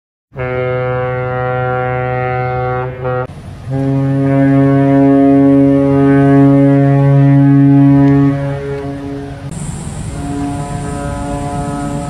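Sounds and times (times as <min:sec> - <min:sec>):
ship's horn blasts: 0:00.4 - 0:12.0.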